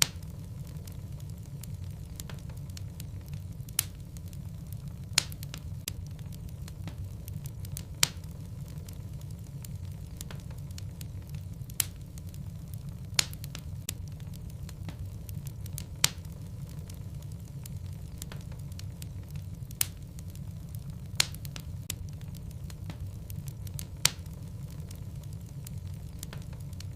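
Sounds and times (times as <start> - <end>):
low rumble of flame: 0.0 - 26.9
wood crackling and popping: 0.0 - 26.9.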